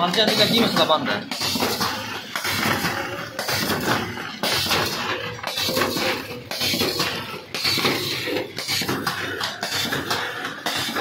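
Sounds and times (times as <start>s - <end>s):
packing machine metallic clatter: 0.0s - 11.0s.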